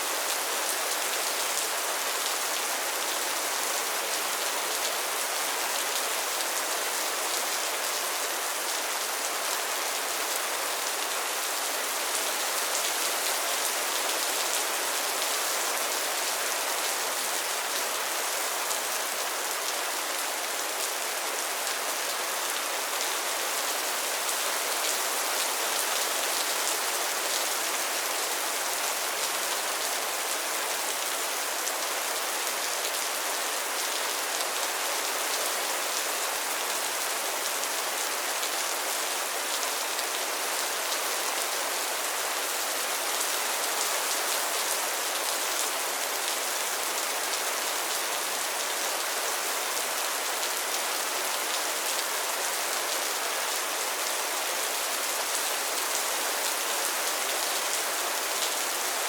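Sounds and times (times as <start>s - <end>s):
rain falling on a pond: 0.0s - 59.0s.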